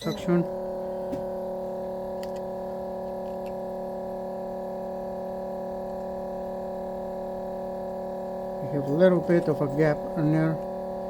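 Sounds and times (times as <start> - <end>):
steady tonal hum: 0.0 - 11.0.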